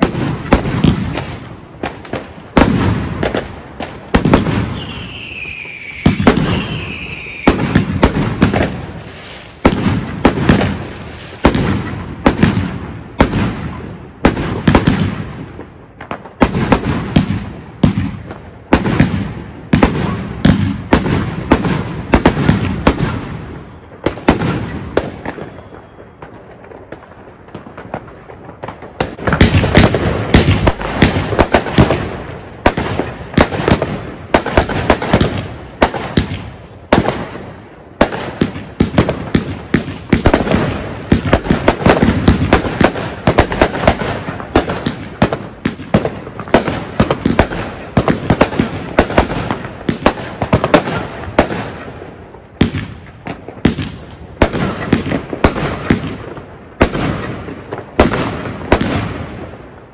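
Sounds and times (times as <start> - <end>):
fireworks battery firing: 0.0 - 59.9.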